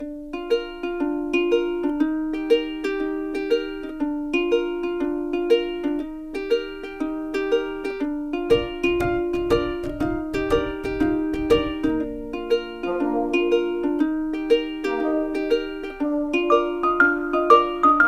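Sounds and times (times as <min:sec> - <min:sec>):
plucked string tune: 0:00.0 - 0:18.0.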